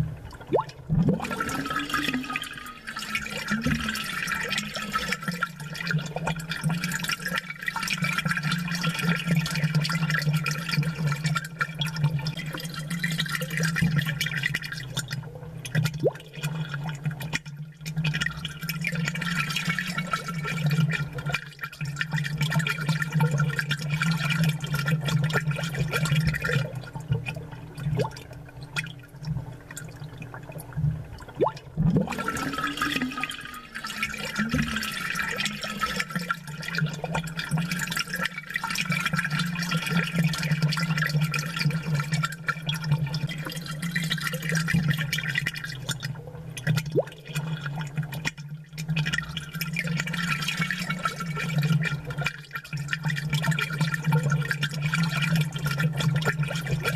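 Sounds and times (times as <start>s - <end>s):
aquarium water bubbling: 0.0s - 56.9s.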